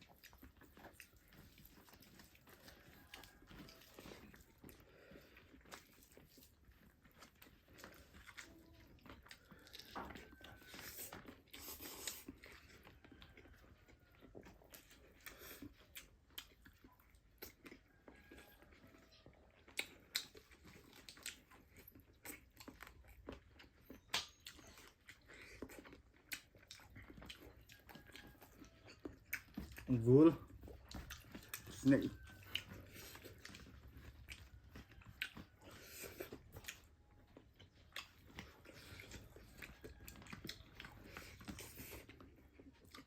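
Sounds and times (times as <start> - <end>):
chewing and biting food: 0.0 - 43.0.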